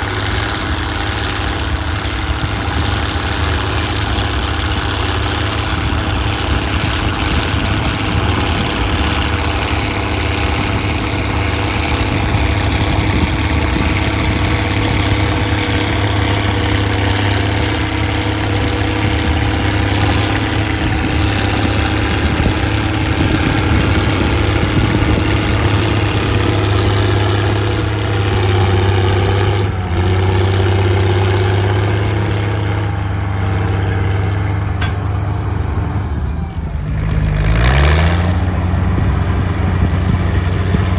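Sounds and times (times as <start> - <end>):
loud tractor diesel engine: 0.0 - 40.9.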